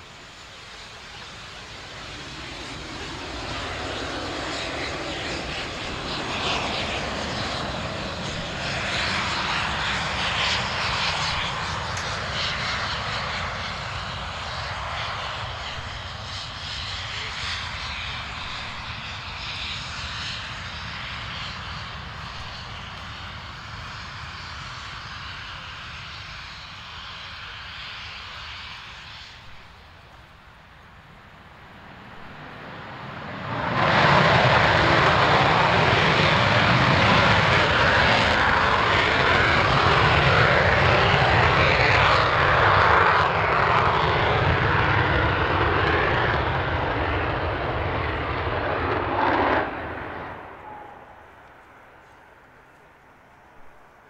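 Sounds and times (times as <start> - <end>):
jet engines at full power: 0.0 - 54.0
jet engines taxiing: 0.0 - 54.0.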